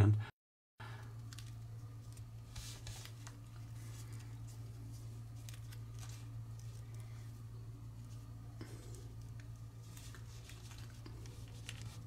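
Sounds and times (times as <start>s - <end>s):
steady low hum: 0.0s - 12.0s
paper crinkling: 1.2s - 12.0s.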